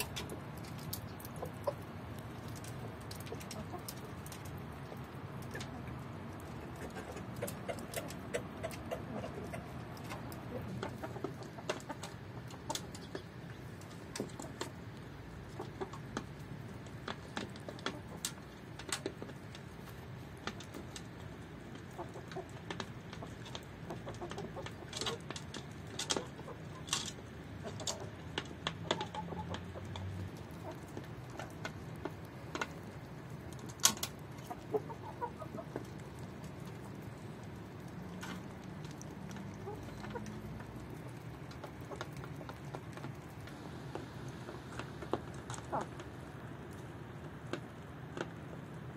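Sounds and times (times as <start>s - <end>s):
soft chicken clucks: 0.0s - 19.4s, 20.2s - 32.8s, 34.2s - 43.3s, 43.9s - 46.6s
chickens pecking feed: 0.0s - 48.9s.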